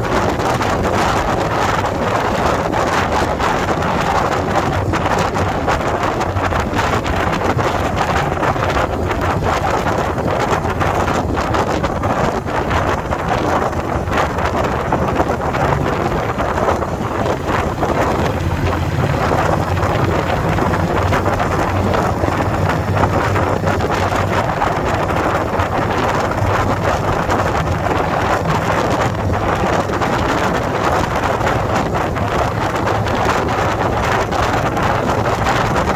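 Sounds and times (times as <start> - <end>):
motorcycle engine running: 0.0 - 35.9
wind buffeting microphone: 0.0 - 35.9.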